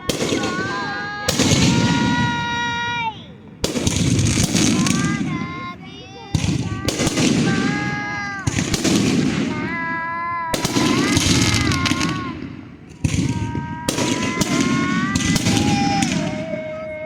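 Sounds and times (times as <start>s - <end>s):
fireworks bangs: 0.0s - 17.0s
fireworks crackle: 0.0s - 17.0s
high held fireworks tones: 0.0s - 17.0s.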